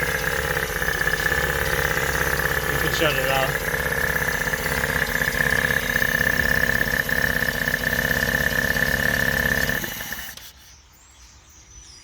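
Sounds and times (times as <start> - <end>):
high whine: 0.0 - 10.4
car engine idling: 0.0 - 10.5
engine switching off and running down: 0.0 - 10.7.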